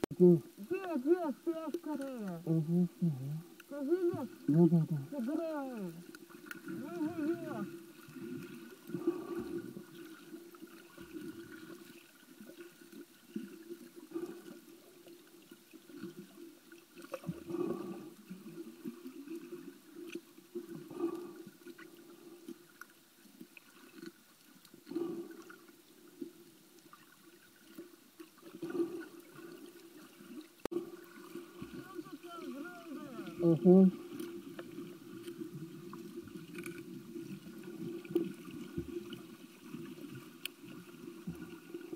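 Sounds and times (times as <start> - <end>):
underwater water noise: 0.0 - 41.9.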